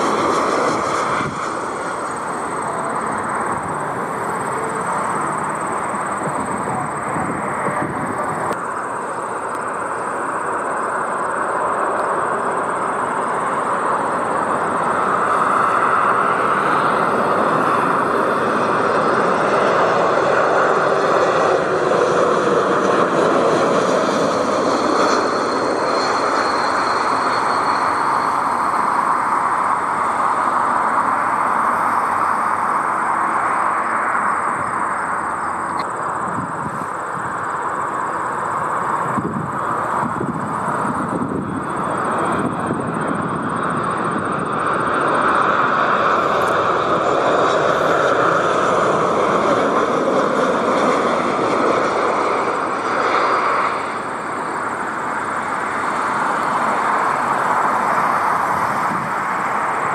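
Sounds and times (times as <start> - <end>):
faint high jet whine: 0.0 - 59.9
jet airliner roar passing: 0.0 - 59.9.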